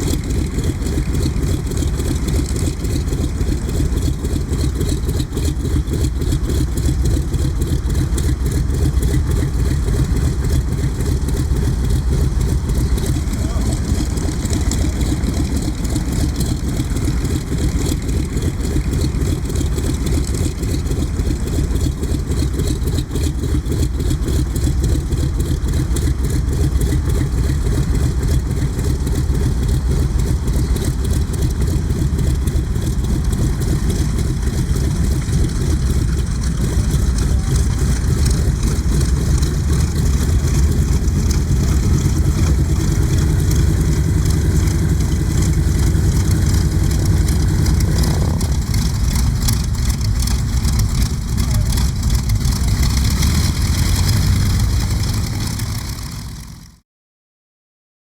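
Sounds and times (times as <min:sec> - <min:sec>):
radial aircraft engine rumbling: 0:00.0 - 0:56.7.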